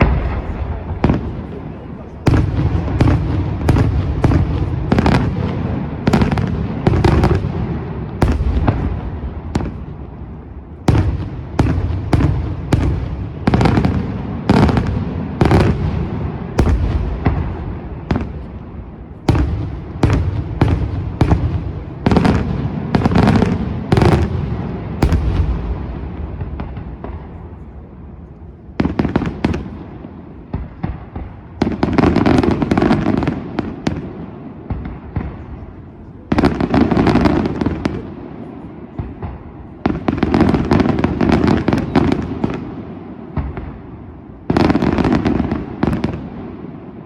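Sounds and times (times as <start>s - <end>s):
fireworks banging with echoes: 0.0s - 47.0s.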